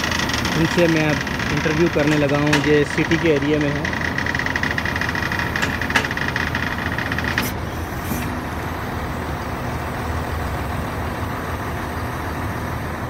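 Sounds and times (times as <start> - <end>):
heavy vehicle engine running: 0.0 - 13.0
road traffic: 0.0 - 13.0.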